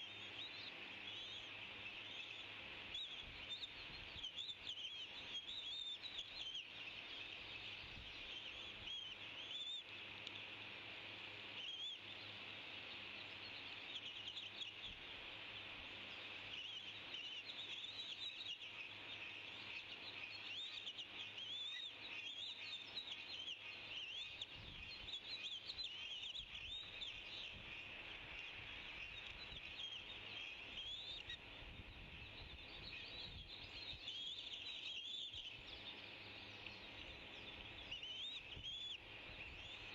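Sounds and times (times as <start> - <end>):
eaglet begging chirps: 0.0 - 10.6, 11.5 - 39.9.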